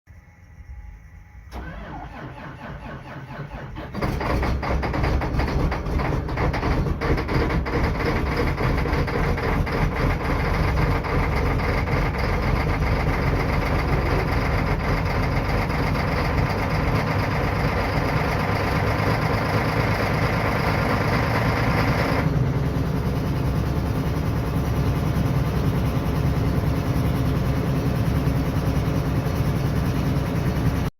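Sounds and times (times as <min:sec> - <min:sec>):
vehicle engine idling: 0:01.5 - 0:30.9.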